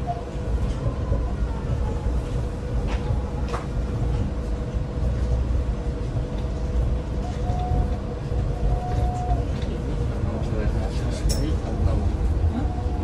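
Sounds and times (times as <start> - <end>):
monorail car rumbling: 0.0 - 13.0.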